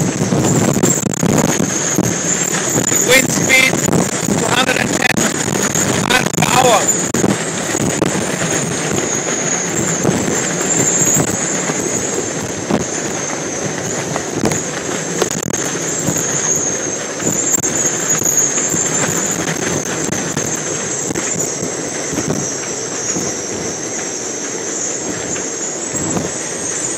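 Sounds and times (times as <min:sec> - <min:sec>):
high wind whistle: 0:00.0 - 0:26.9
strong wind buffeting microphone: 0:00.0 - 0:26.9.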